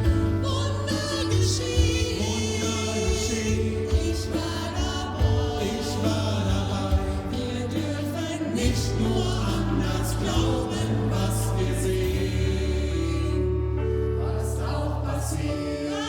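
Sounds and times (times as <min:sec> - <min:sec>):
choir singing sustained notes: 0:00.0 - 0:16.0.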